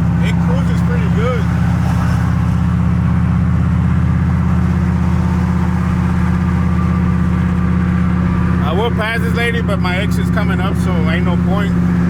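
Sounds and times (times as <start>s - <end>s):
truck engine and exhaust cruising: 0.0s - 12.0s.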